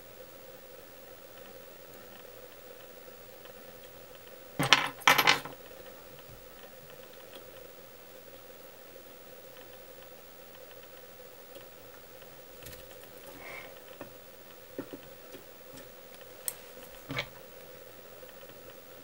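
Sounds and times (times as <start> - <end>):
steady faint hum: 0.0 - 19.0
faint clicks and ticks: 1.0 - 4.5, 5.6 - 19.0.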